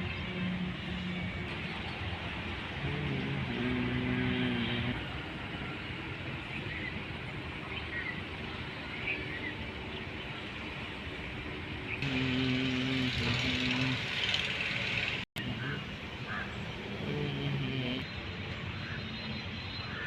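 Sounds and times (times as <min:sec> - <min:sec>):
diesel truck engine humming: 0:00.0 - 0:20.0.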